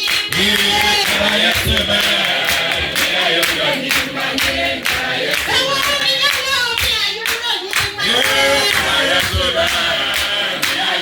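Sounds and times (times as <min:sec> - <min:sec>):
clapping in time: 0:00.0 - 0:11.0
crowd singing a praise song: 0:00.0 - 0:11.0.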